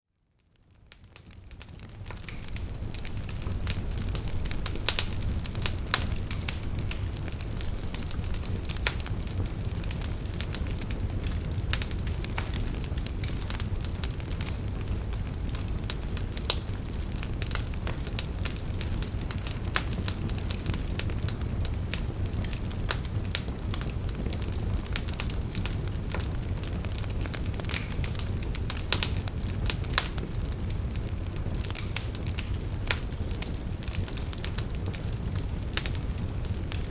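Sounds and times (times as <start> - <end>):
bonfire rumbling: 0.4 - 36.9
burning wood crackling: 0.4 - 36.9.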